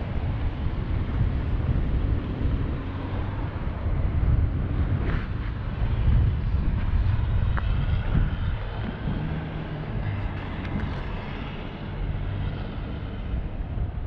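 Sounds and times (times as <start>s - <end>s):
vehicle rumble: 0.0s - 14.0s
wind buffeting microphone: 0.0s - 14.0s.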